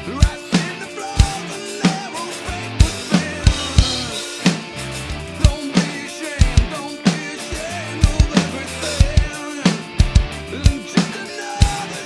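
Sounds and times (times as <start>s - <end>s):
rock backing track: 0.0s - 12.0s
rock drum beat: 0.0s - 12.0s.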